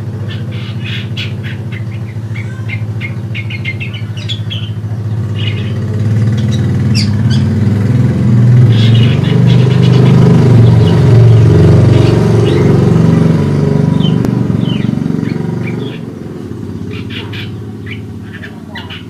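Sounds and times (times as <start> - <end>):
vehicle engine running: 0.0 - 19.0
bird chirps: 0.2 - 7.6, 8.6 - 12.9, 13.9 - 19.0.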